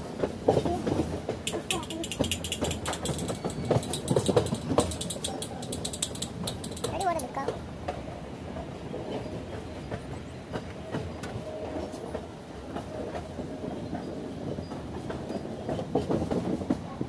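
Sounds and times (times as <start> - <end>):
clickety-clack over rail joints: 0.0 - 17.0
train wheels rumbling on track: 0.0 - 17.0.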